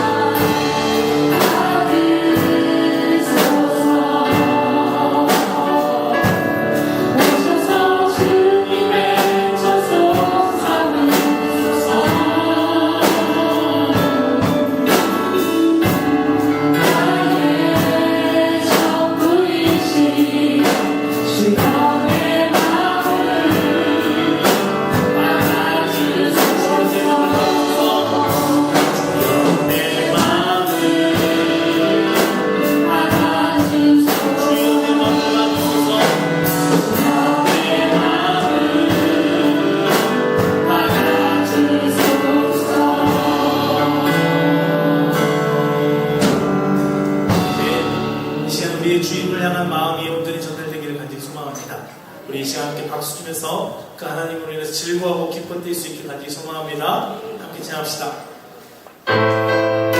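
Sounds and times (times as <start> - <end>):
steady drum beat: 0.0 - 48.6
band accompaniment: 0.0 - 52.3, 58.2 - 59.9
group of singers: 0.0 - 52.6.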